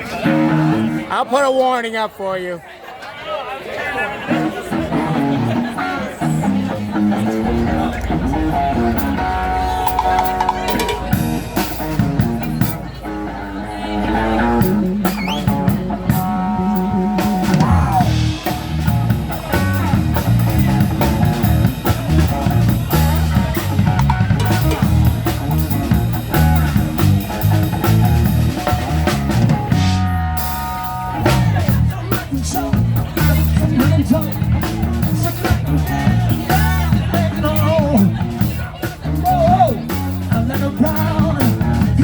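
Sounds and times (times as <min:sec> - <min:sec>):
bass guitar: 0:00.0 - 0:01.1, 0:04.3 - 0:42.0
electric guitar: 0:00.0 - 0:01.1, 0:04.3 - 0:42.0
drum kit: 0:04.8 - 0:42.0.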